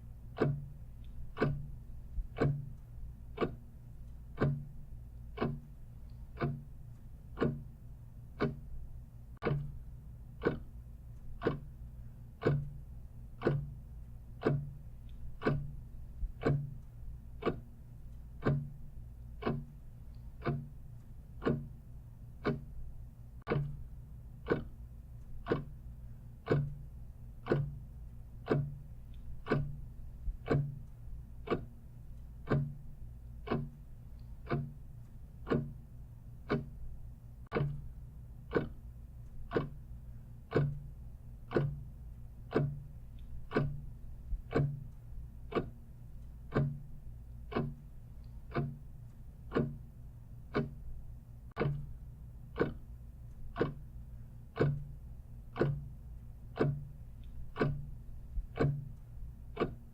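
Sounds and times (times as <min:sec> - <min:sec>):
clock ticking: 0:00.0 - 0:59.9
faint low hum: 0:00.0 - 0:59.9.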